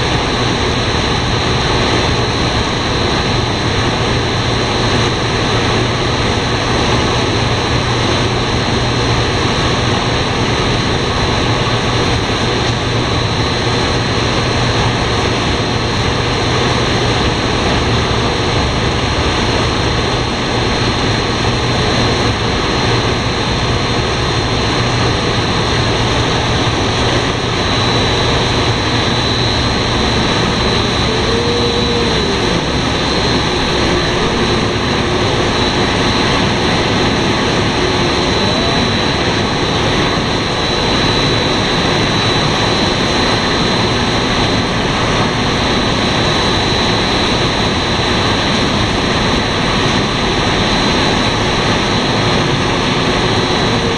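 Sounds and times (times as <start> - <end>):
machine drone with high whine: 0.0 - 53.9.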